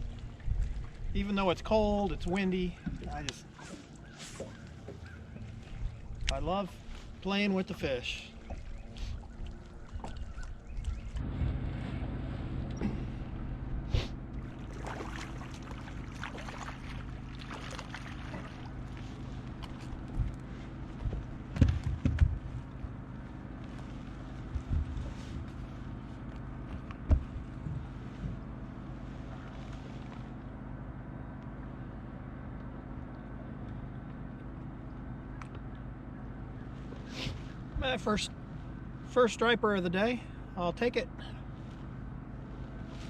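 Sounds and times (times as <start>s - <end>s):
water lapping against hull: 0.0s - 31.2s, 32.5s - 43.0s
boat motor humming: 0.0s - 43.0s.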